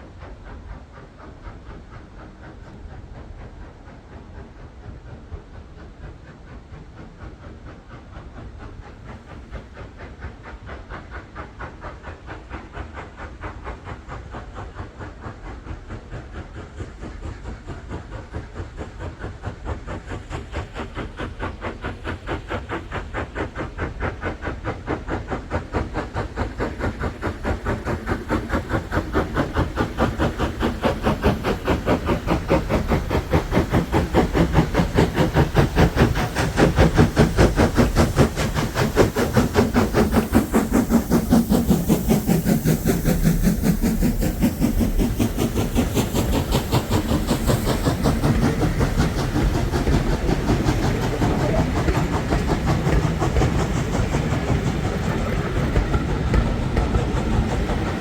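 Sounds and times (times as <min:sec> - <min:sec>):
steam hiss: 0:00.0 - 0:58.0
steam locomotive chuffing: 0:00.0 - 0:58.0.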